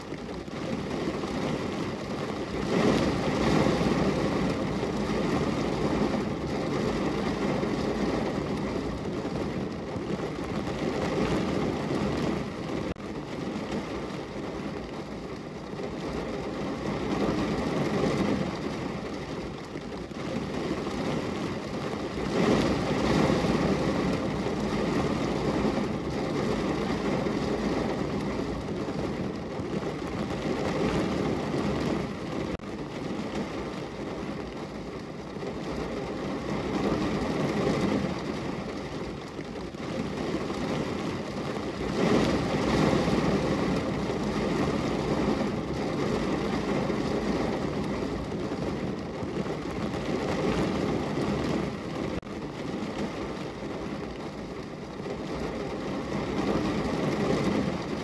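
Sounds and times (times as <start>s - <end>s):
rain pattering on a window pane: 0.0s - 58.0s.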